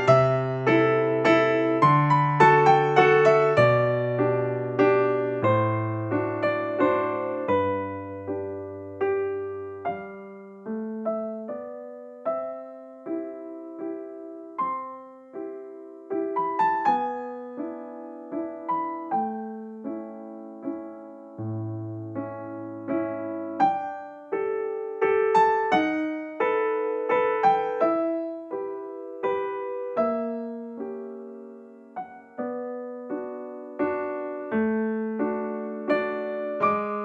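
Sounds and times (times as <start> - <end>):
soft piano music: 0.0 - 37.0.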